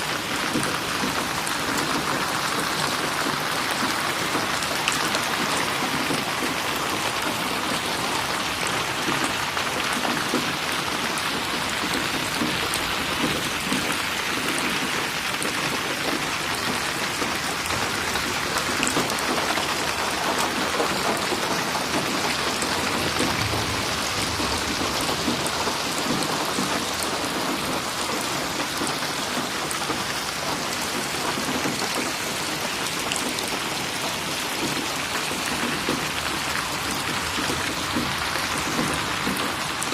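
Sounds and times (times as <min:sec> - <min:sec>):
raindrops splashing: 0:00.0 - 0:39.9
steady rain falling: 0:00.0 - 0:39.9.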